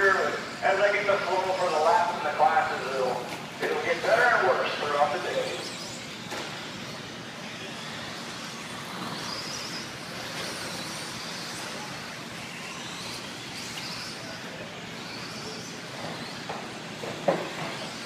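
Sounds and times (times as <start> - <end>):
rc truck motor whine: 0.0 - 18.0.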